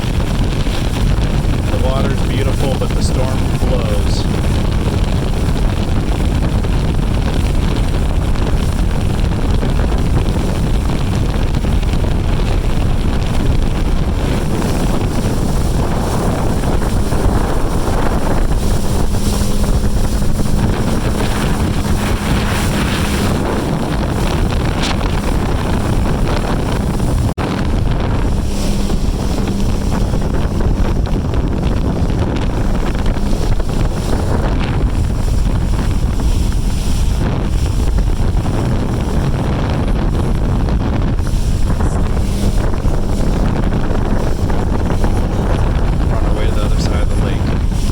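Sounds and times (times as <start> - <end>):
boat engine drone: 0.0 - 47.9
water rushing: 0.0 - 47.9
wind buffeting microphone: 0.0 - 47.9.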